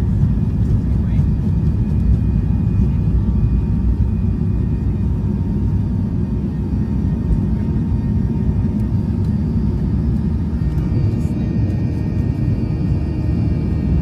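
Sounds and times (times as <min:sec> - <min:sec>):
faint steady whines: 0:00.0 - 0:14.0
jet airliner rumble: 0:00.0 - 0:14.0.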